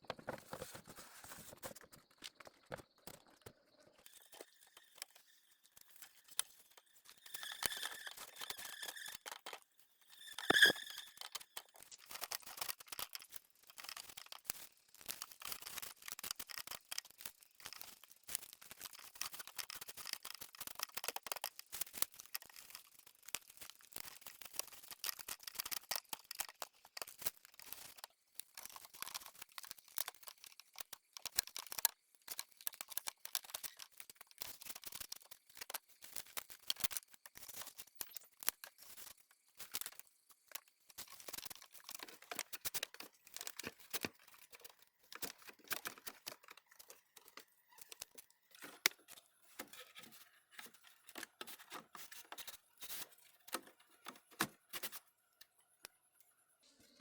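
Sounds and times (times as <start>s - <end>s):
dry material crackling and rustling: 4.1s - 55.0s.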